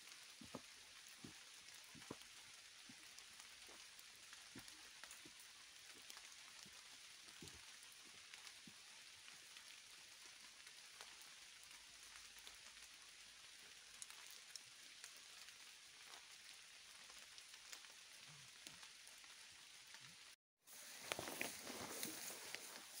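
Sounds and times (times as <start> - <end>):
light rain on leaves: 0.0 - 23.0.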